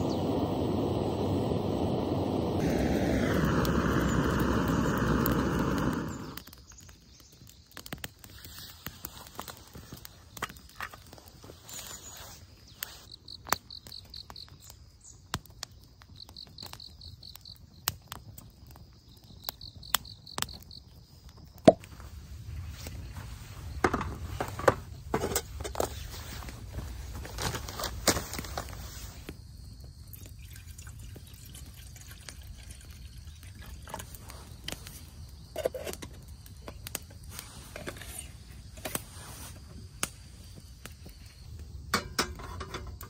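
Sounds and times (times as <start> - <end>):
insect chirping: 0.0 - 43.0.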